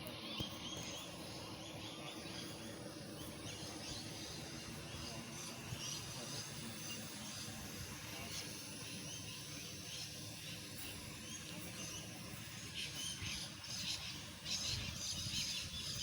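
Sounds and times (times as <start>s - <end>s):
small birds chirping: 0.0s - 16.0s
steady background noise: 0.0s - 16.0s.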